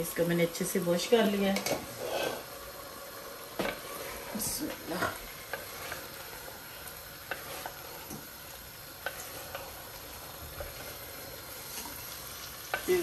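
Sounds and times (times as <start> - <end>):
meat and potatoes sizzling in oil: 0.0 - 13.0.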